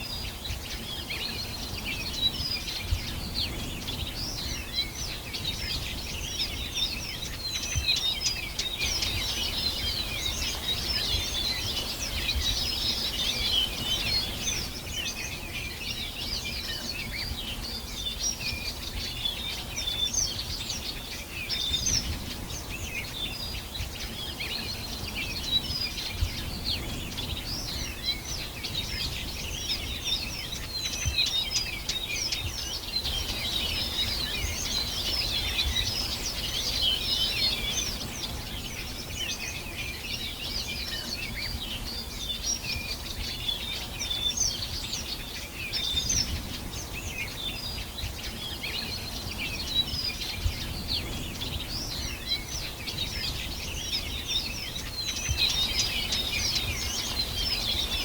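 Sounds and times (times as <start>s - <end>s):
songbirds chirping chorus: 0.0s - 58.0s.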